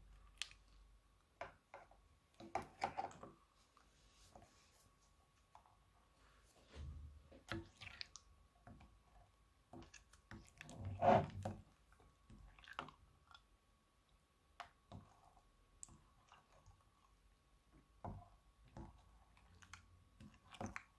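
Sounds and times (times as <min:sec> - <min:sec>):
spatula stirring sticky slime: 0:00.0 - 0:20.9.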